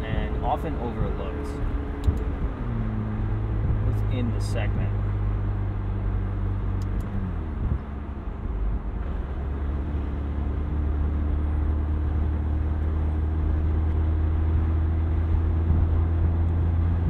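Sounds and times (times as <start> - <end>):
sports car engine driving: 0.0 - 17.0.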